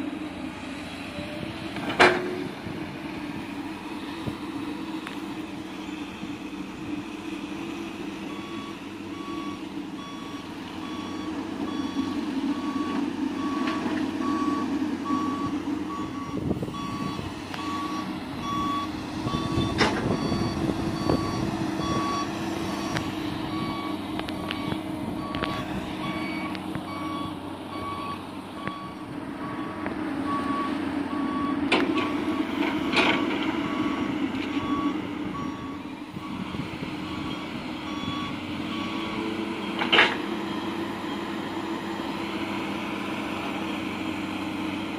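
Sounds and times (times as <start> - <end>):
diesel engine running: 0.0 - 44.9
reversing alarm beeping: 7.8 - 44.0.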